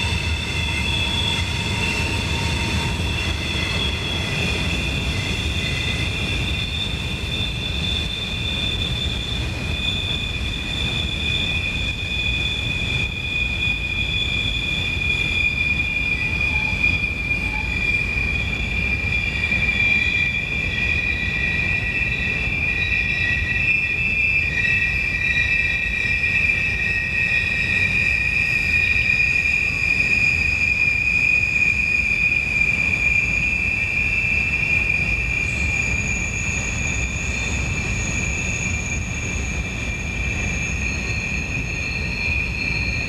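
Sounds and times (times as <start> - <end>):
train rumbling on rails: 0.0 - 43.0
train wheels squealing: 0.0 - 43.0.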